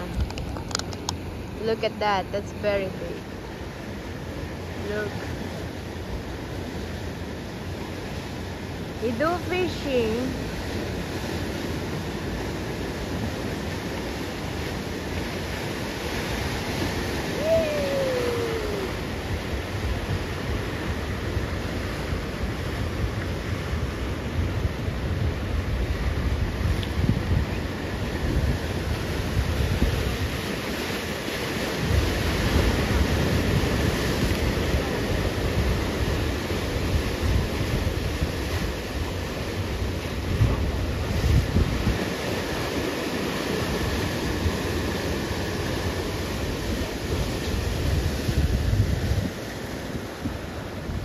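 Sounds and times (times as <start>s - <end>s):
ocean surf against rocks: 0.0s - 51.0s
wind rumble on microphone: 0.0s - 51.0s.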